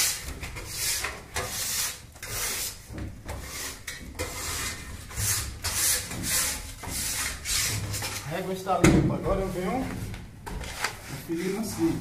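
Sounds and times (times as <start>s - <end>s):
hand scraper scraping plaster: 0.0s - 8.3s, 9.3s - 12.0s.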